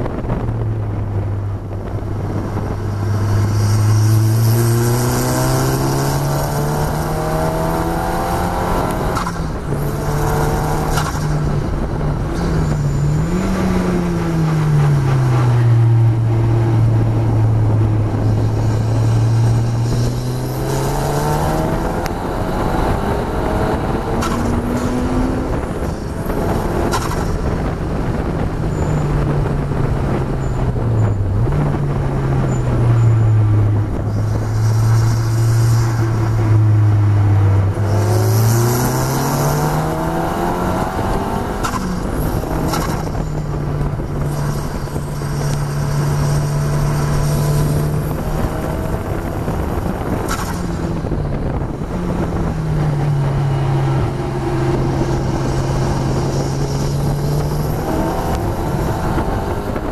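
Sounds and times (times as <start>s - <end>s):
car engine running hard: 0.0s - 59.9s
wind rush: 0.0s - 59.9s.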